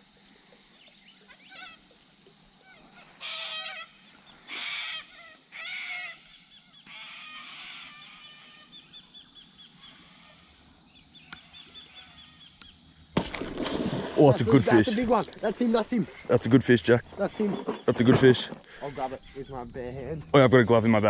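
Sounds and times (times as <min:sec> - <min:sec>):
harsh bird calls: 0:01.1 - 0:01.9, 0:02.6 - 0:12.8, 0:14.2 - 0:21.0.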